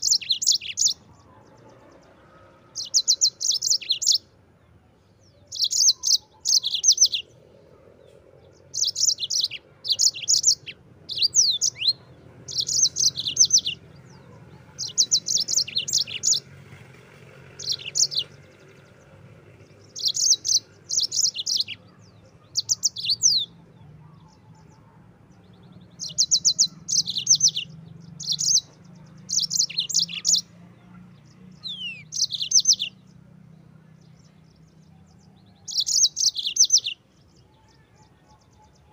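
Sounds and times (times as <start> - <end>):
canary singing trilled phrases: 0.0 - 4.5, 5.2 - 38.9.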